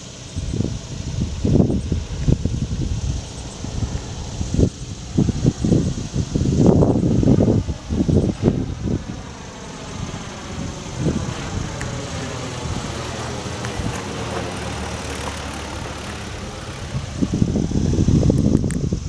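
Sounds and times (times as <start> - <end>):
plane passing: 0.0 - 19.0.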